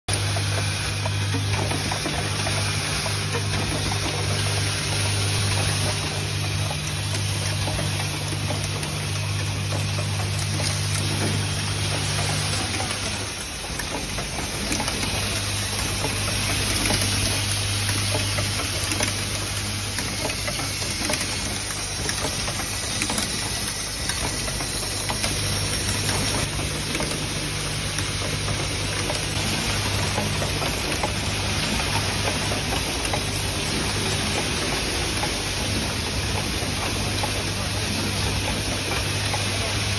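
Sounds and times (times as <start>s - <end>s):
machinery hiss and whir: 0.1s - 39.9s.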